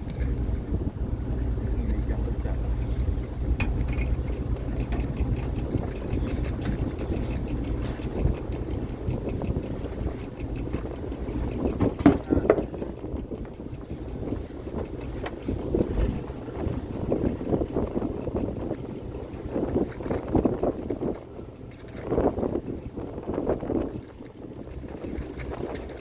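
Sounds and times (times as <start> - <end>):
boat engine humming: 0.0 - 26.0
knocks and clatter: 3.5 - 26.0.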